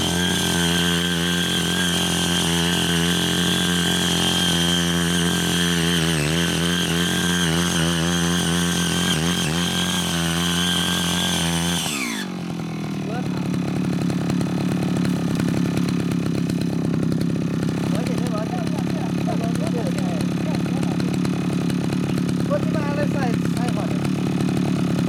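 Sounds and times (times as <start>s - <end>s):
small cultivator engine revving: 0.0s - 25.0s
tilling blade churning soil: 0.0s - 25.0s.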